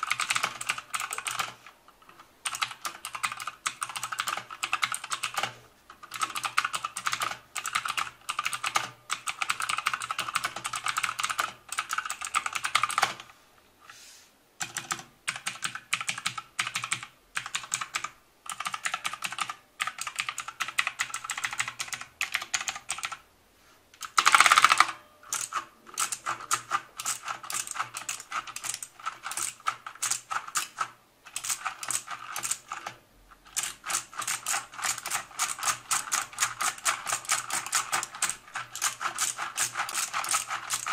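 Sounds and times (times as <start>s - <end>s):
mechanical keyboard typing: 0.0s - 13.3s, 14.6s - 23.2s, 24.0s - 40.9s.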